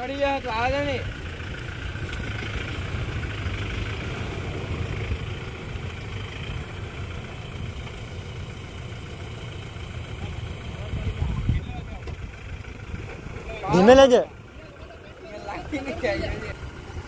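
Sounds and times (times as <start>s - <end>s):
vehicle engine idling low: 0.0s - 17.0s.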